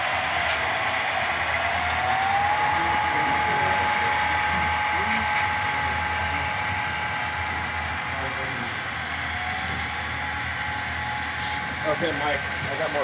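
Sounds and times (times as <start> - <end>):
low mechanical hum: 0.0 - 13.0
model locomotive whine: 0.0 - 13.0.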